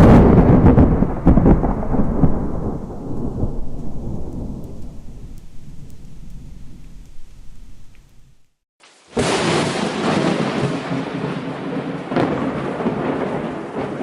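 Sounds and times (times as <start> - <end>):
thunder crackling and rumbling: 0.0 - 8.6, 9.2 - 14.0.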